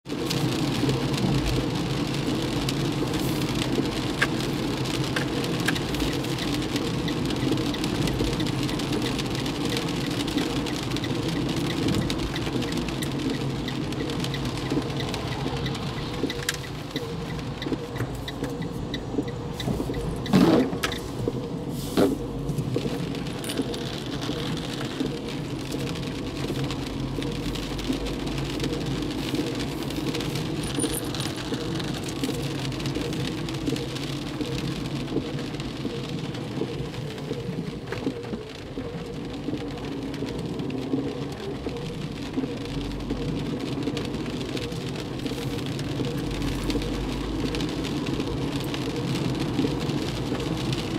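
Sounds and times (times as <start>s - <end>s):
car engine and tyre noise: 0.0s - 50.9s
rain ticking on car: 0.0s - 50.9s.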